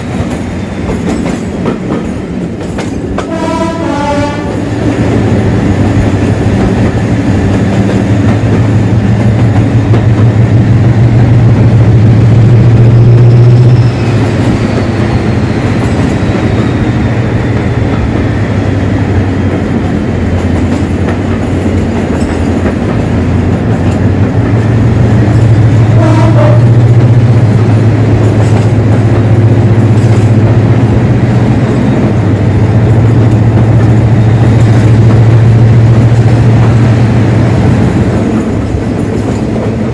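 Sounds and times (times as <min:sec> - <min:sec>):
diesel locomotive engine drone: 0:00.0 - 0:39.9.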